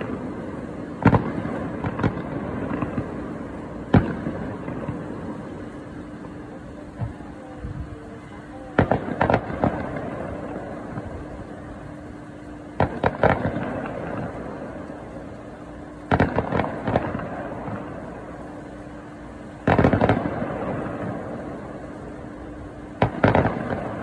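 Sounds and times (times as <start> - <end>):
faint steady hum: 0.0 - 24.0
fireworks bangs: 0.0 - 24.0.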